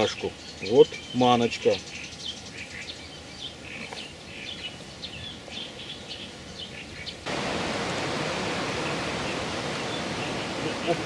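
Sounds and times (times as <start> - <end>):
loud steady hiss: 0.0 - 11.0
small birds chirping: 0.0 - 11.0.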